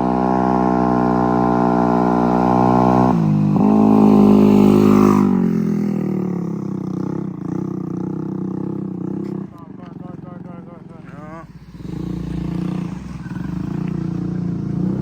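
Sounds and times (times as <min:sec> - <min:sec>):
moped engine revving: 0:00.0 - 0:15.0.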